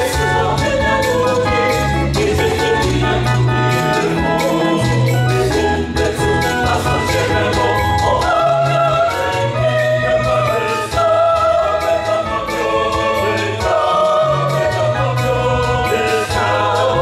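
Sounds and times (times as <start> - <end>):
choir singing in harmony: 0.0 - 17.0
keyboard bass notes: 0.0 - 17.0.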